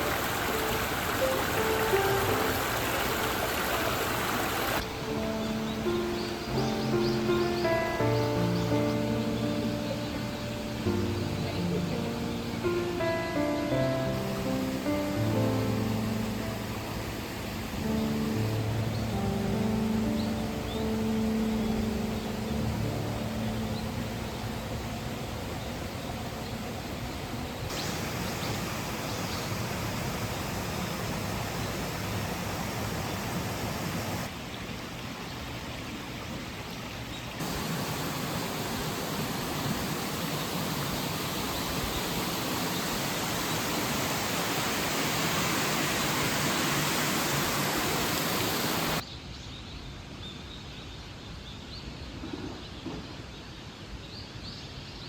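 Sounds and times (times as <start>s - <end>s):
rushing water of falls: 0.0s - 49.0s.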